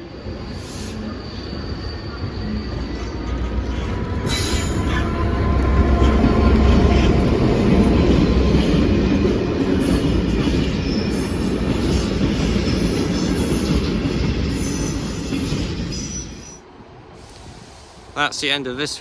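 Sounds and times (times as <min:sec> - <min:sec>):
diesel locomotive engine rumble: 0:00.0 - 0:18.8.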